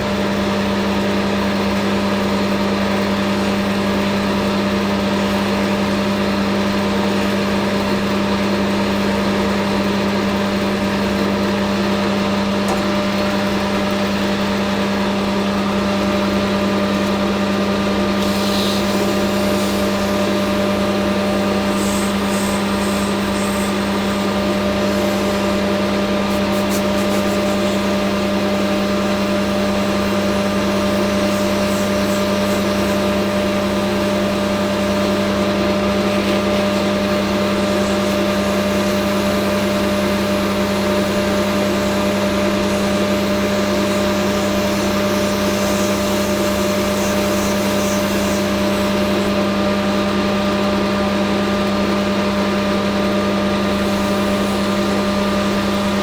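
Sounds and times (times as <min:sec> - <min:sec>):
metal lathe motor humming: 0:00.0 - 0:56.0.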